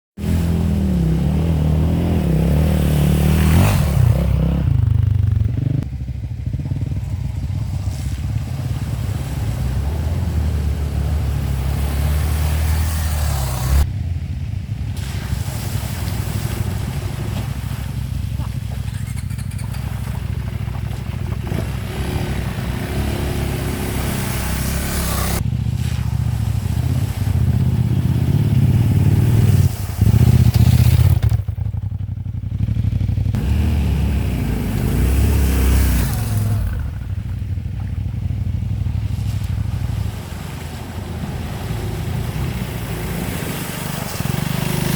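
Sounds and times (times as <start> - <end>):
motorcycle engine revving: 0.2 - 14.9, 16.2 - 44.9.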